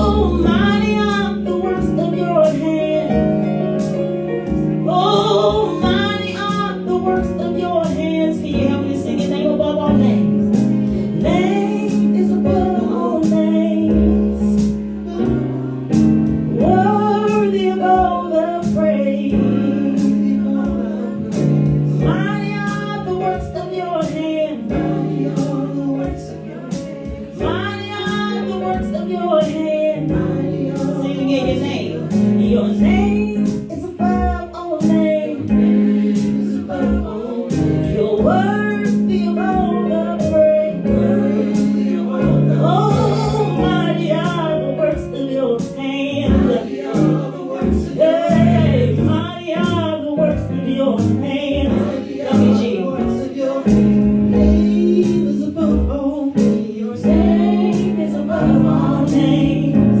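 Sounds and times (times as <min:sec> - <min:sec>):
worship song with band: 0:00.0 - 1:00.0.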